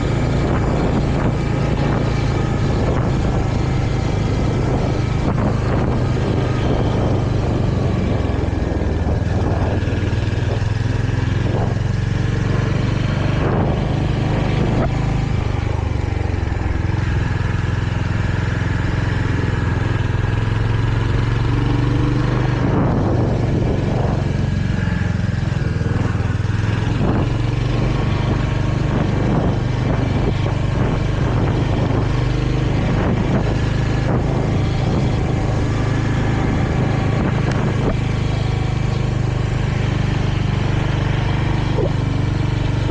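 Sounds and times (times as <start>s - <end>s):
motorcycle engine running: 0.0s - 42.9s
wind and road noise: 0.0s - 42.9s.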